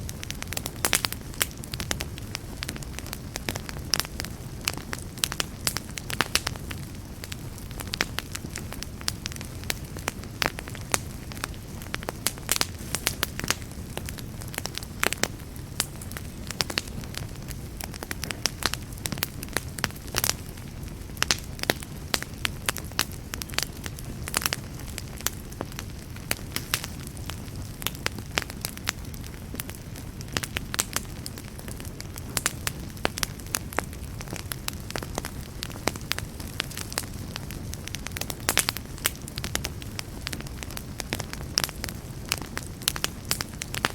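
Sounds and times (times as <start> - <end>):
campfire low rush: 0.0 - 43.9
fire crackles and snaps: 0.0 - 43.9.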